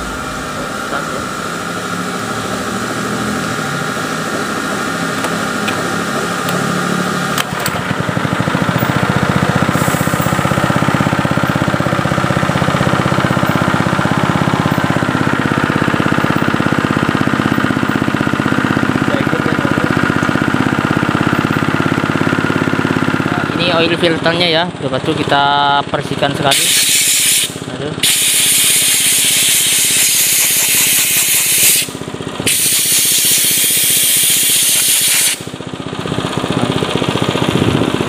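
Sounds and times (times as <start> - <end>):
small engine running: 0.0 - 38.0.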